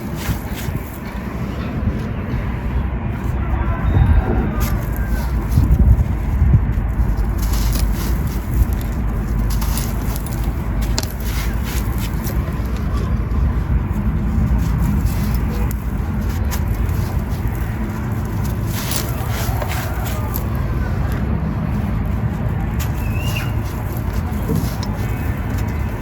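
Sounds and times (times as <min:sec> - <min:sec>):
sand-cement crumbling and crunching: 0:00.0 - 0:01.4, 0:04.4 - 0:26.0
steady low rumble: 0:00.0 - 0:26.0.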